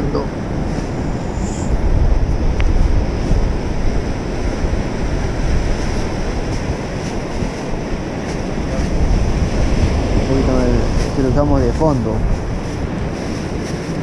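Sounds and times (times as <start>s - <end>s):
breaking surf: 0.0s - 14.0s
wind buffeting microphone: 0.0s - 14.0s.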